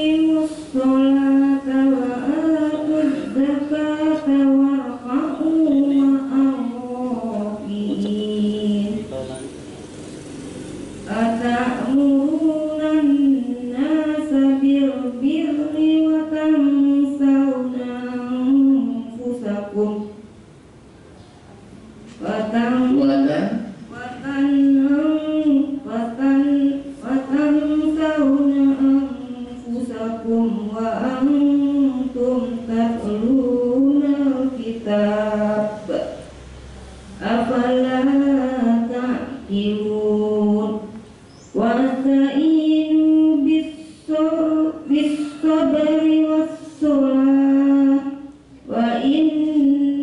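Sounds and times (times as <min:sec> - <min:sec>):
woman chanting: 0:00.0 - 0:09.4, 0:11.0 - 0:20.3, 0:22.1 - 0:36.4, 0:37.0 - 0:50.0.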